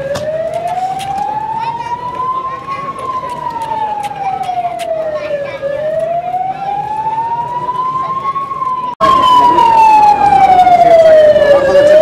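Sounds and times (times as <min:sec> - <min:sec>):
wailing siren: 0:00.0 - 0:12.0.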